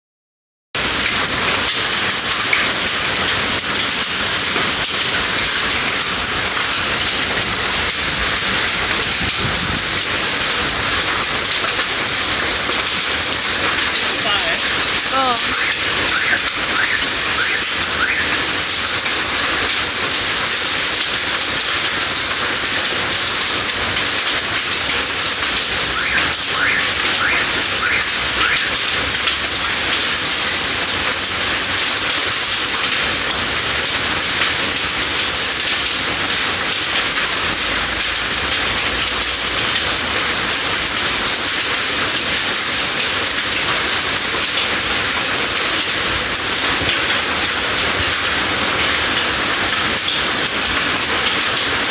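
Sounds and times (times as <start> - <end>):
hail and heavy rain pattering: 0.8 - 51.9.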